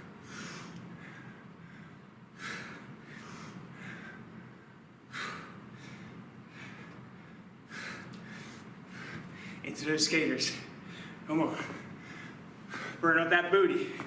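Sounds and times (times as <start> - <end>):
man breathing hard in puffs: 0.0 - 9.7, 10.7 - 13.0.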